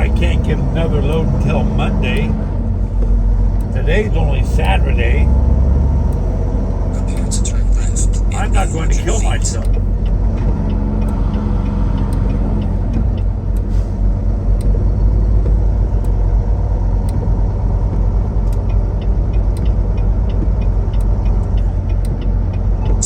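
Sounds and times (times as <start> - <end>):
light ticking: 0.0 - 23.0
truck engine and road noise: 0.0 - 23.0.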